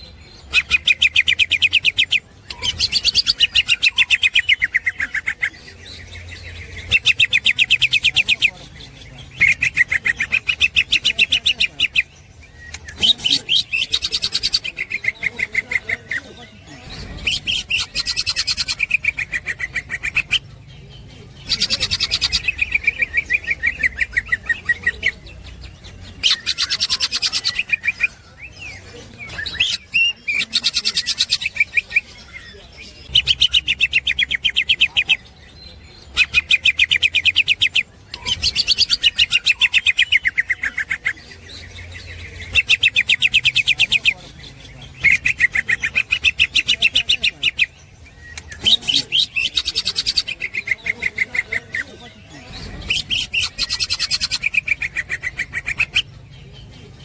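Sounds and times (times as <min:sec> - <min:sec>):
bird rapid chattering song: 0:00.0 - 0:57.0.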